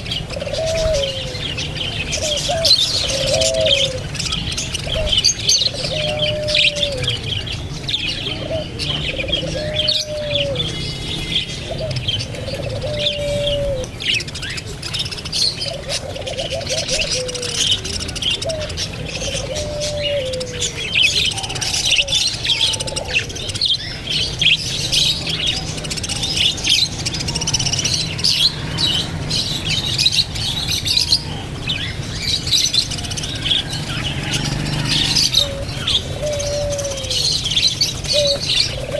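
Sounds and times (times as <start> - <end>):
parrots chirping: 0.0 - 38.9.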